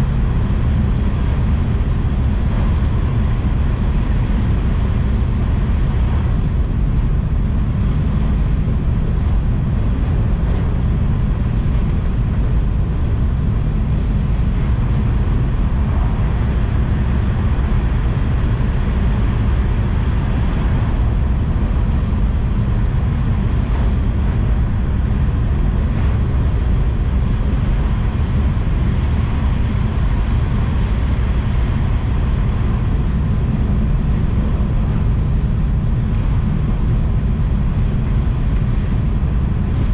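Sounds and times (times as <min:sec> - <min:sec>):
train rumbling inside carriage: 0:00.0 - 0:39.9.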